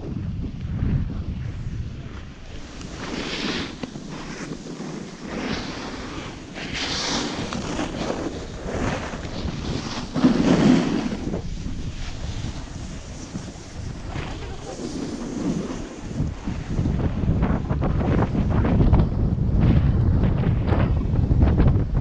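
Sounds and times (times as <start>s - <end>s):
low rumble: 0.0s - 22.0s
wind on microphone: 0.0s - 22.0s
snowboard scraping over snow: 0.1s - 22.0s.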